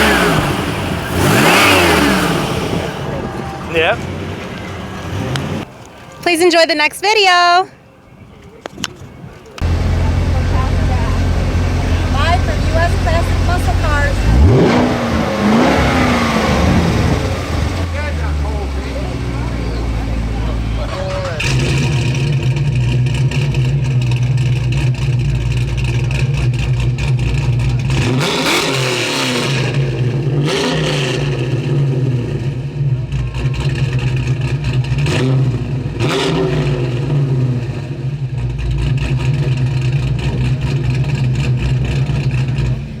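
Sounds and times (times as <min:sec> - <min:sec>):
car engine idling and revving: 0:00.0 - 0:06.3, 0:08.8 - 0:43.0.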